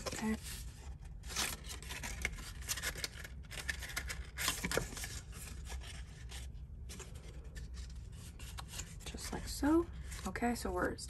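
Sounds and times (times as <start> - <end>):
cardstock folded and creased: 0.0 - 9.4.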